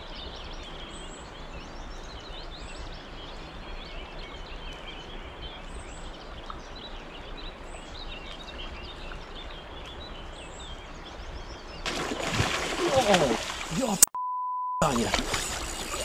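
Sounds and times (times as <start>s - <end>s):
birds chirping and singing: 0.0s - 14.0s, 14.8s - 16.0s
flowing river water: 0.0s - 14.1s, 14.8s - 16.0s.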